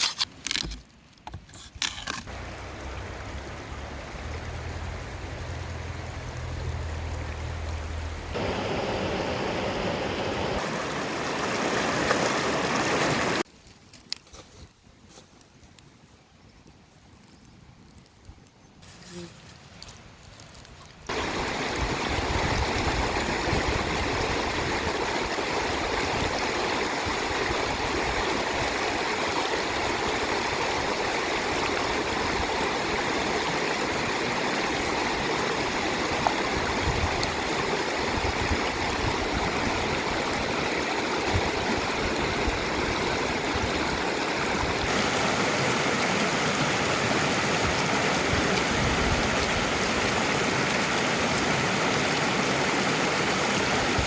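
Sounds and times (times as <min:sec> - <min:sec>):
stream water rushing: 0:02.3 - 0:13.5, 0:21.1 - 0:54.0.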